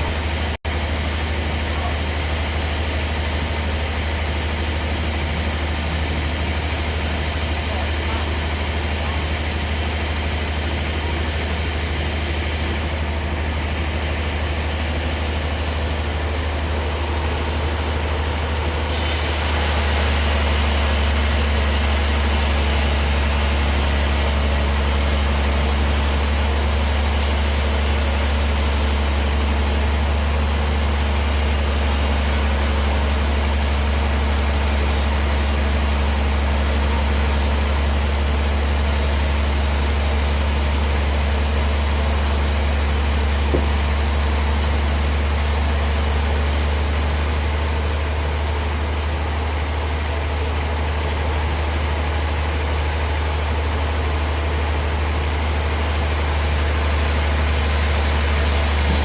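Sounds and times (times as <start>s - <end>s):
bandsaw sawmill humming: 0.0s - 59.0s.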